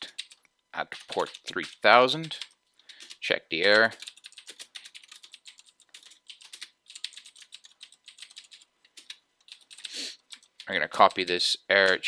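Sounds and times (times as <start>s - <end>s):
typing on keyboard: 0.0s - 12.0s.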